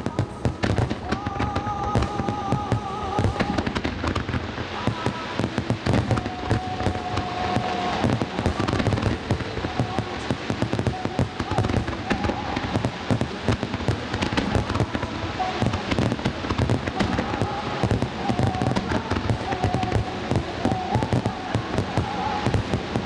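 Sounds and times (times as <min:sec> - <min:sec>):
fireworks bangs and crackle: 0:00.0 - 0:23.0.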